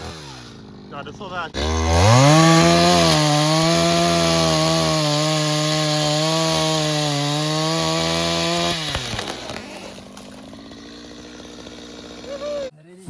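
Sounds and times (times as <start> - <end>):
chainsaw cutting wood: 0.0 - 12.7.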